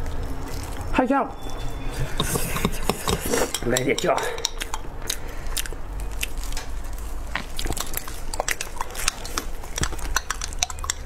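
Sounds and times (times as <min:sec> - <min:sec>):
chewing crunchy food: 0:00.0 - 0:01.0, 0:02.0 - 0:11.0.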